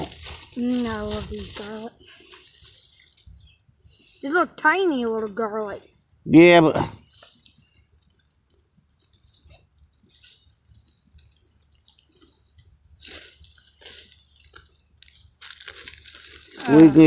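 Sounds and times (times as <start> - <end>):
plants rustling and crackling: 0.0 - 17.0.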